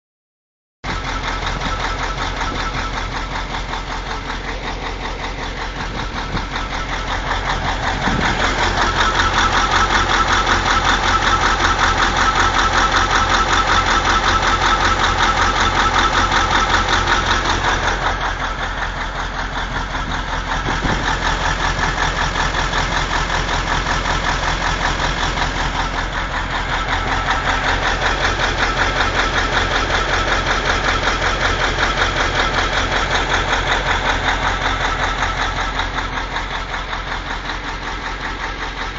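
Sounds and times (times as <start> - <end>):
diesel engine running: 0.8 - 38.9.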